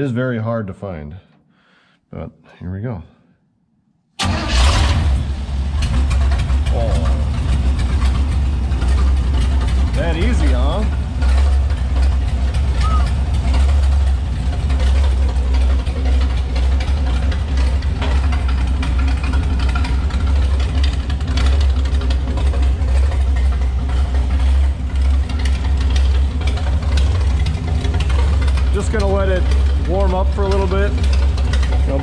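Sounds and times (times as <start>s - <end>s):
race car engine idling: 4.2s - 32.0s.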